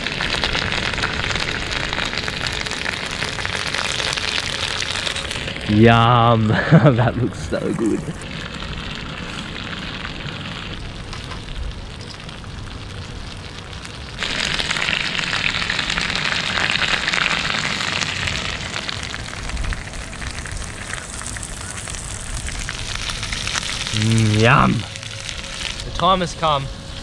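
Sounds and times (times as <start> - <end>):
lobster sizzling in a frying pan: 0.0 - 27.0.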